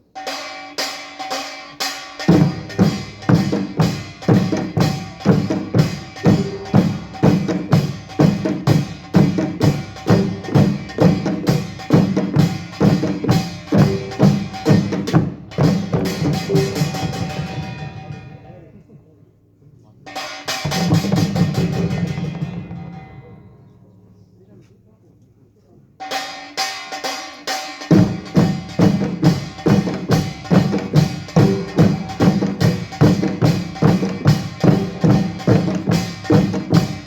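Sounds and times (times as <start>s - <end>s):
percussion ensemble playing: 0.0s - 18.8s, 20.0s - 23.8s, 26.0s - 37.0s
drum hits: 0.3s - 18.7s, 20.1s - 23.6s, 26.1s - 37.0s.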